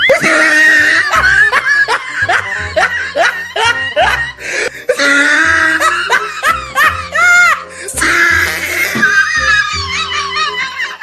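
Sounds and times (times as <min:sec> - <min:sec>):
high-pitched laughing: 0:00.0 - 0:11.0.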